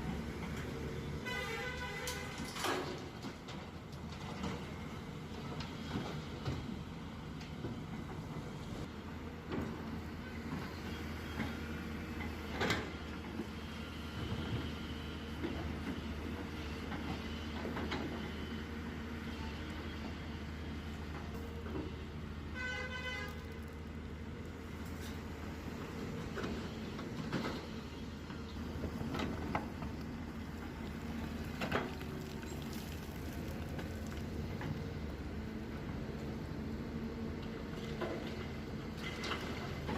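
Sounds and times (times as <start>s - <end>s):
excavator diesel engine running: 3.0s - 22.8s, 23.5s - 39.9s.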